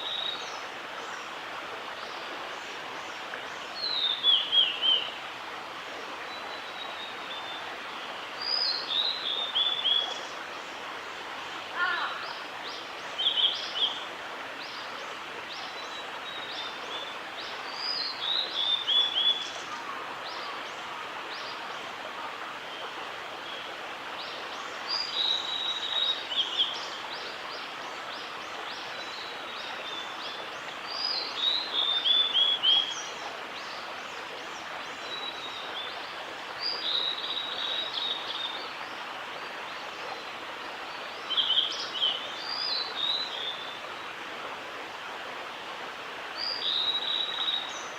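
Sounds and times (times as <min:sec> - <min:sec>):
steady background hiss: 0:00.0 - 0:47.9.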